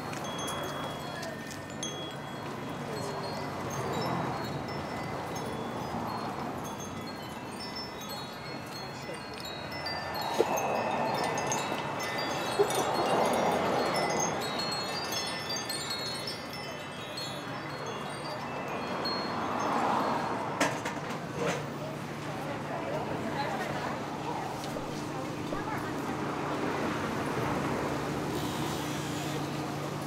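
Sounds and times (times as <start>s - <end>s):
metal wind chimes ringing: 0.0s - 26.0s
steady background murmur: 0.0s - 30.0s.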